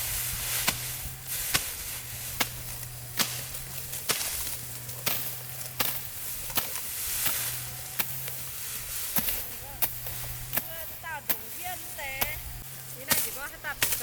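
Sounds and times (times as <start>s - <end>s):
sickle cutting rice stalks: 0.0s - 14.0s
steady low hum: 0.0s - 14.0s.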